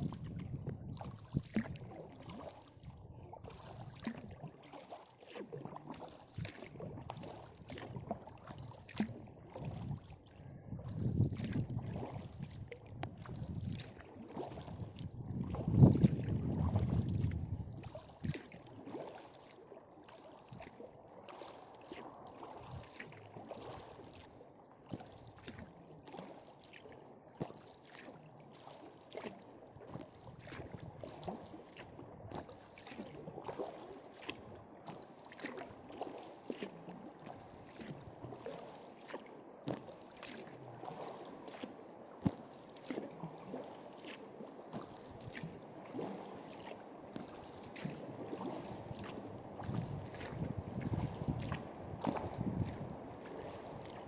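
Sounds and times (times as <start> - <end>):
paddle splashing in water: 0.0 - 54.0.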